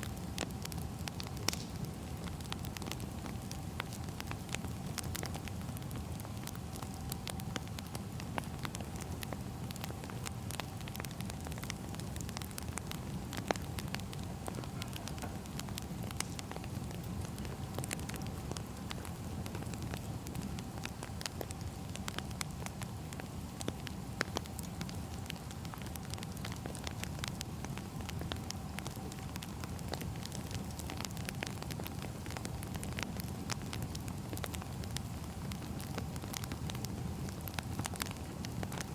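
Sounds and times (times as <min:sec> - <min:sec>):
firewood crackling and popping: 0:00.0 - 0:38.9
wood fire rumble: 0:00.0 - 0:38.9.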